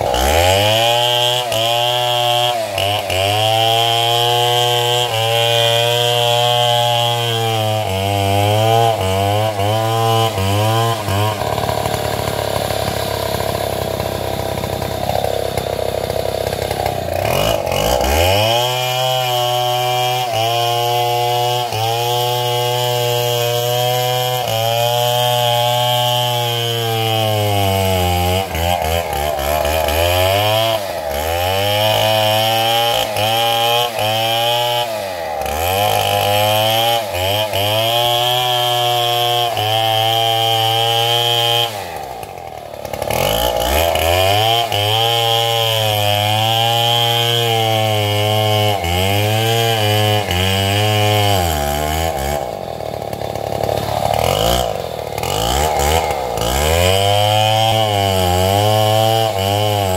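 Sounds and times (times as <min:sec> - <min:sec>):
chainsaw cutting: 0:00.0 - 0:59.9.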